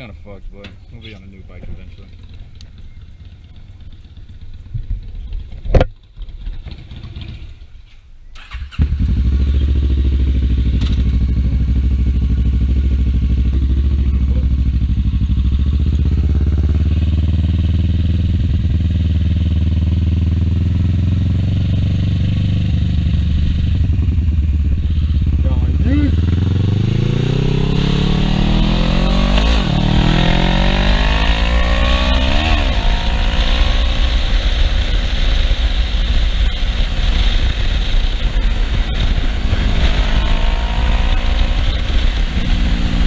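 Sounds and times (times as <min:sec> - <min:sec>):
motorcycle engine starting and running: 0:01.1 - 0:07.8, 0:08.4 - 0:43.0.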